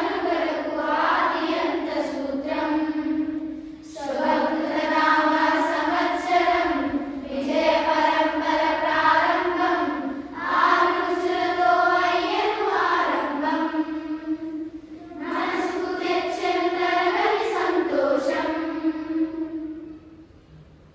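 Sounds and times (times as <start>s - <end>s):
children chanting in unison: 0.0s - 20.2s.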